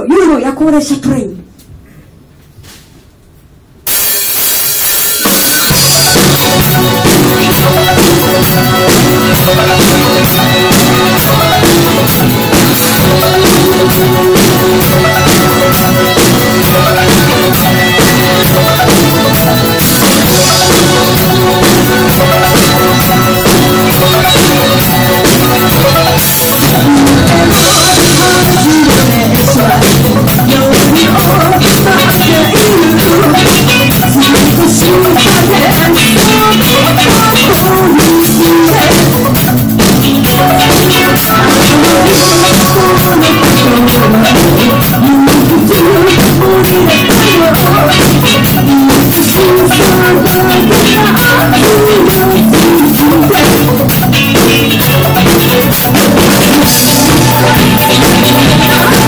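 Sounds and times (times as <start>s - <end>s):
drum kit: 3.8s - 59.0s
electric guitar: 3.9s - 59.0s
woman singing: 5.6s - 59.0s.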